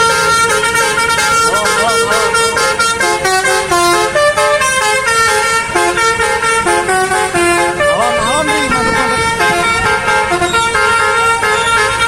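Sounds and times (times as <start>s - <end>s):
bus horn playing a melody: 0.0s - 12.0s.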